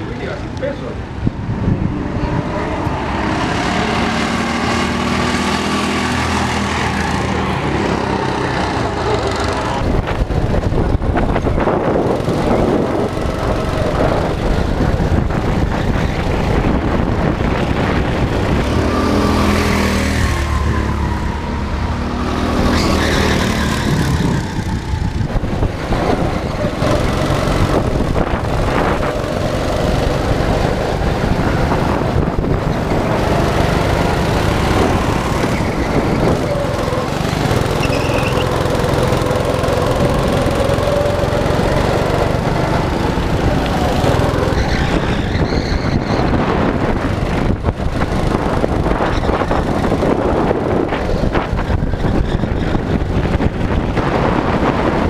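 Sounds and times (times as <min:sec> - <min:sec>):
go-kart engines revving: 0:00.0 - 0:55.0.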